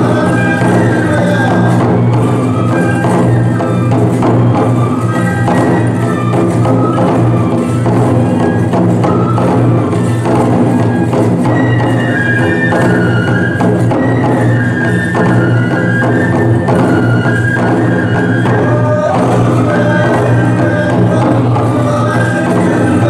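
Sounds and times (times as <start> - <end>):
bamboo flutes melody: 0.0 - 23.0
large drums beating: 0.0 - 23.0.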